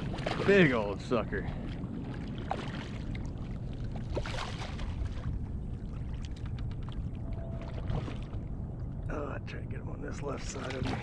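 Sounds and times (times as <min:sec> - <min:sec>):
water splashing around kayak: 0:00.0 - 0:09.0, 0:10.4 - 0:11.0
low rumble: 0:00.0 - 0:11.0.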